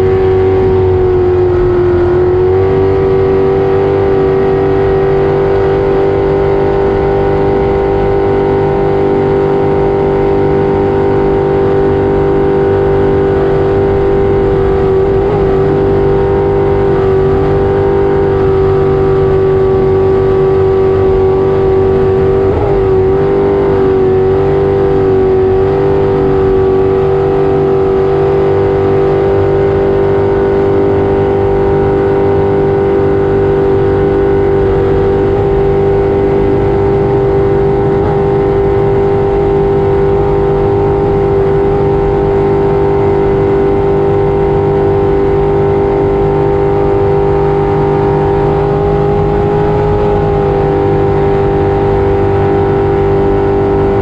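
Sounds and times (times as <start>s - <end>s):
jet boat engine running hard: 0.0s - 54.0s.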